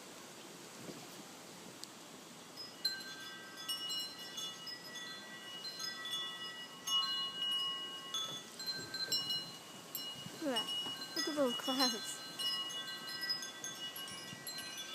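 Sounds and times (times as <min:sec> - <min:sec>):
wind chimes ringing: 0:02.5 - 0:14.9.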